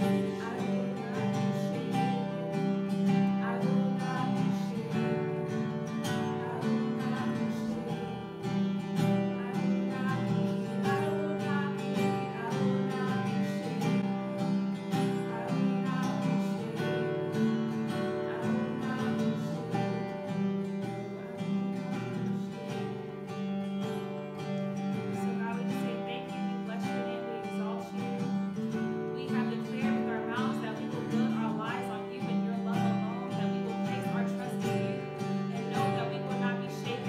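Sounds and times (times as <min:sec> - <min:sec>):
acoustic guitar strumming: 0:00.0 - 0:37.0
woman singing: 0:00.0 - 0:37.0.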